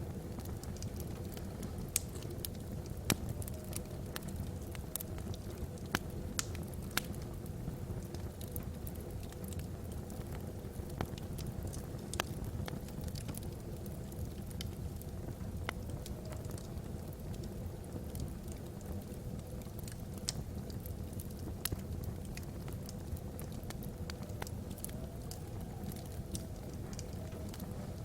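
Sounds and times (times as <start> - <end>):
fire flames rumbling: 0.0 - 28.0
logs crackling and popping: 0.0 - 28.0.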